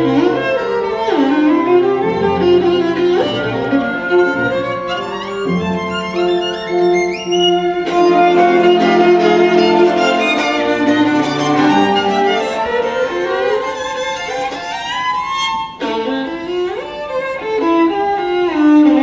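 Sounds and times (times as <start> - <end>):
orchestral strings: 0.0 - 19.0
solo violin: 0.0 - 19.0.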